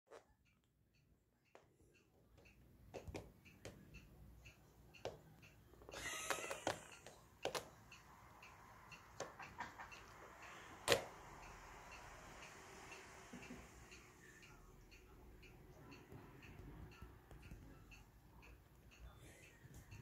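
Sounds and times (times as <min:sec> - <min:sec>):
light ticking: 0:00.4 - 0:20.0.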